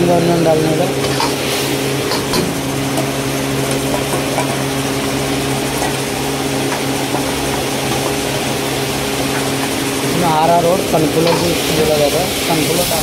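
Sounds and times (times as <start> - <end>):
food sizzling in a wok: 0.0 - 13.0
steady motor hum: 0.0 - 13.0.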